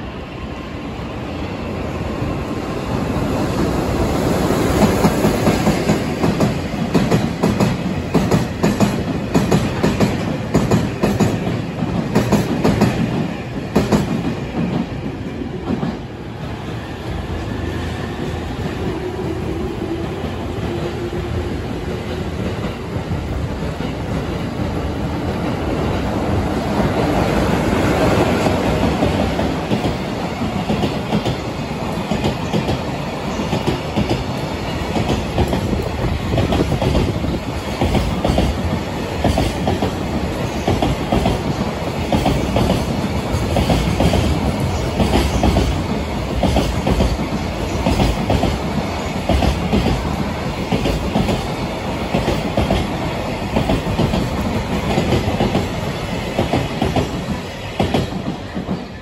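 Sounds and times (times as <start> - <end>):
freight train wheels clattering: 4.6 - 19.5, 21.9 - 59.0.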